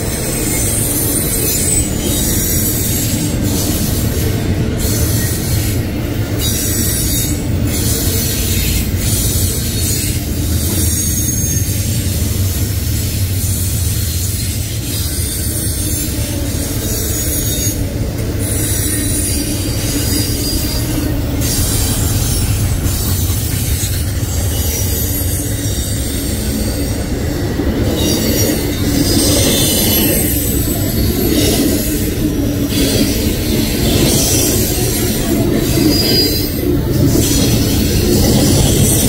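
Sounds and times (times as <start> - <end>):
freight train rumble: 0.0 - 39.0
wheel squeal: 0.0 - 39.0.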